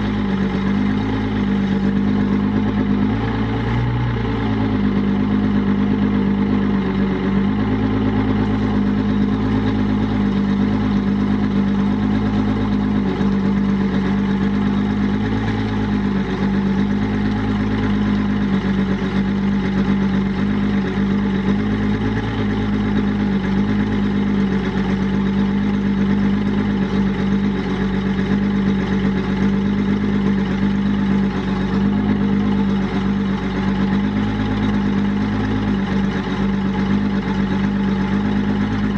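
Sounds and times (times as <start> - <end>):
outboard motor idling: 0.0 - 38.9.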